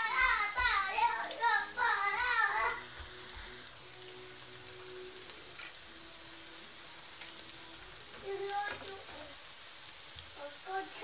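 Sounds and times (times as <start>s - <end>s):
food frying in hot oil: 0.0s - 11.0s.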